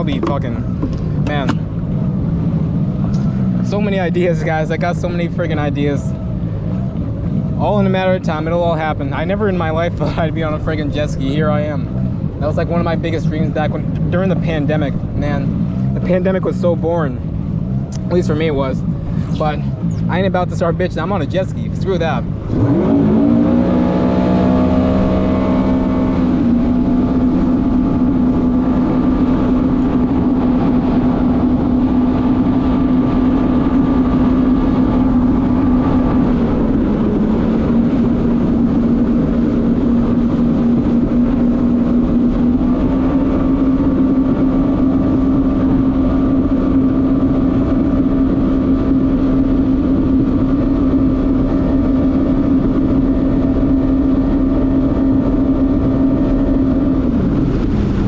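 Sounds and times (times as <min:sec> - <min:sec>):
jet ski engine running: 0:00.0 - 0:58.0.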